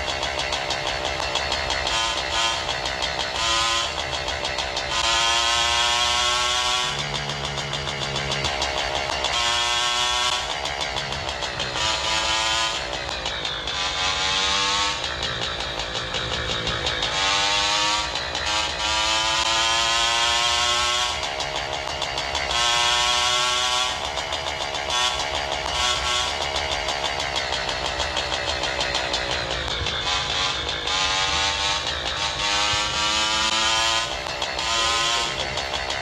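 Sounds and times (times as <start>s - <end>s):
motorcycle engine shifting gears: 0.0s - 36.0s.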